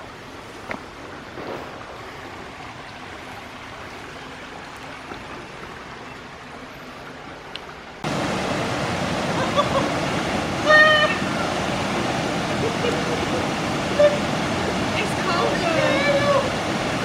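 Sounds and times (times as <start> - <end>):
rushing river and waterfall: 0.0 - 17.0.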